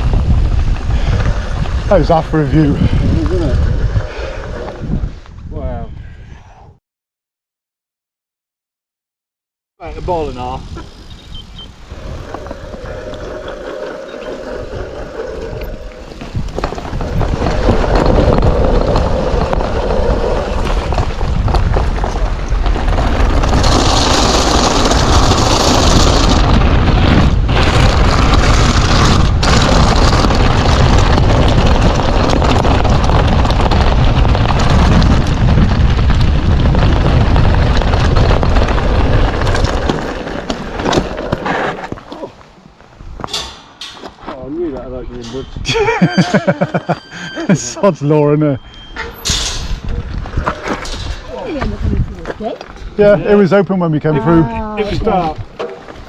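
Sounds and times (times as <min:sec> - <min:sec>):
wind buffeting microphone: 0:00.0 - 0:06.8, 0:09.8 - 0:47.6, 0:48.4 - 0:56.0.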